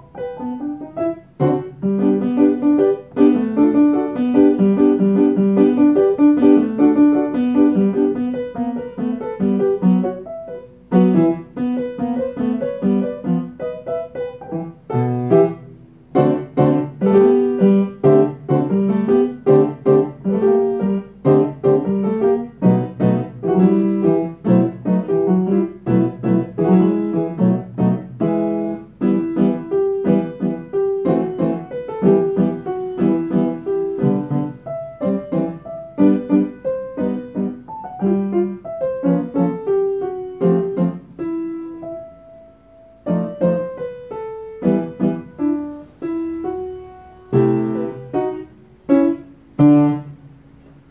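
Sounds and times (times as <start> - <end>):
upright piano playing: 0.0 - 50.9.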